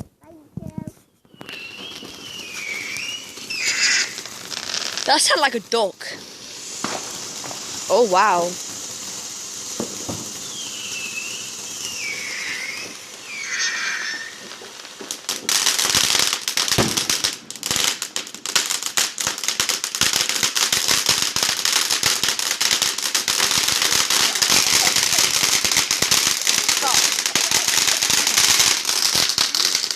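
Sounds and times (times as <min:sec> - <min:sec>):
fireworks crackling: 0:00.0 - 0:29.9
firework whistles: 0:01.0 - 0:05.5, 0:06.1 - 0:29.9
hiss: 0:01.5 - 0:05.2, 0:06.1 - 0:17.3, 0:19.1 - 0:29.9.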